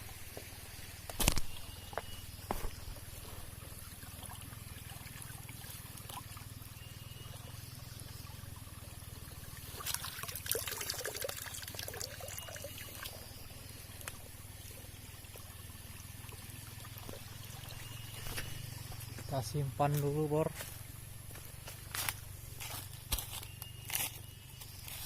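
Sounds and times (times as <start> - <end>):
water trickling and splashing: 0.0 - 24.1.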